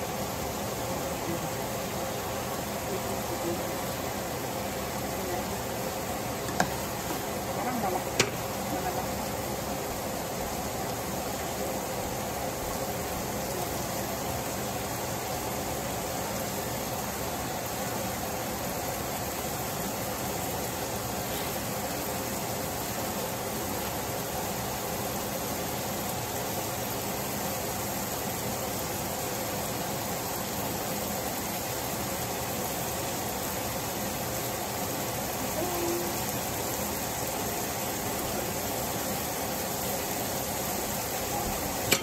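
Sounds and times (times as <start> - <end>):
vegetables sizzling in oil: 0.0 - 42.0.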